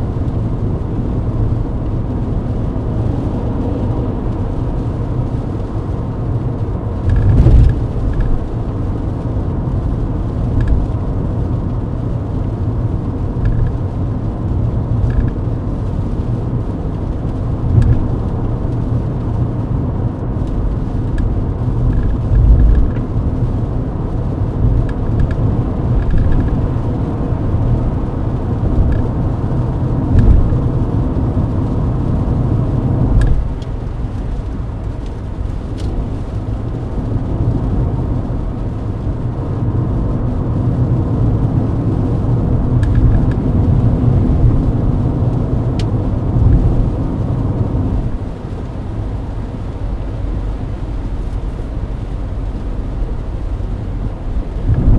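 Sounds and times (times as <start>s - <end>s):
road and engine noise in car: 0.0s - 54.9s.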